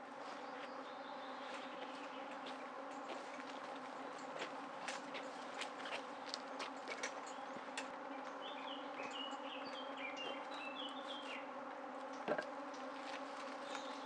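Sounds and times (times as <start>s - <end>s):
flying insect buzzing: 0.2s - 14.0s.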